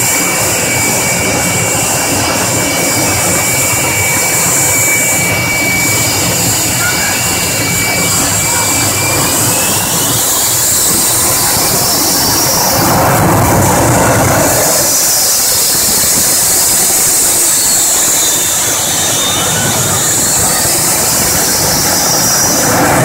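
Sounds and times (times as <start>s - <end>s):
jet turbine engine whine: 0.0s - 23.0s
tyres squealing in a burnout: 0.0s - 23.0s.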